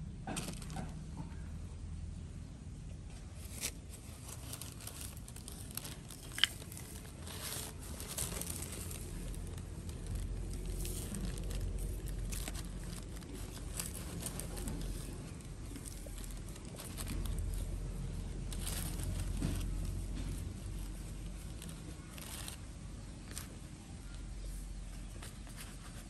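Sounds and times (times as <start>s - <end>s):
plastic bag rustling: 0.2s - 1.3s, 3.1s - 26.0s.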